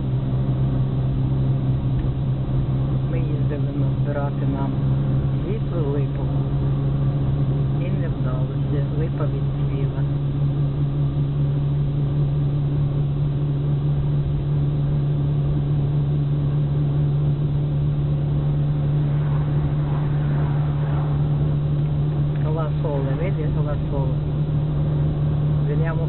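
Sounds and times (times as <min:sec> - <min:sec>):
car engine and road drone: 0:00.0 - 0:26.0.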